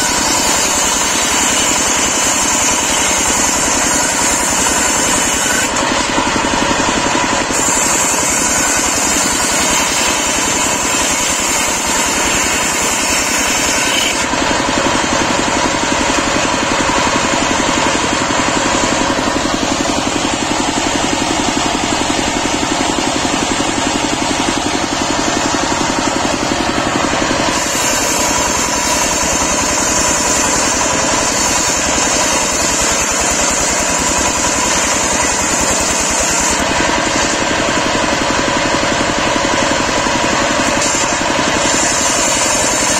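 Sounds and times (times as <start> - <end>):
diesel engine running: 0.0 - 13.6, 14.2 - 42.9.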